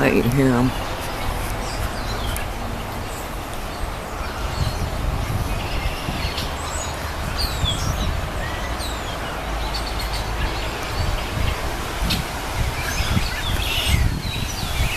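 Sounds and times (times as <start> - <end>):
high downward-slurred bird calls: 0.1 - 14.9.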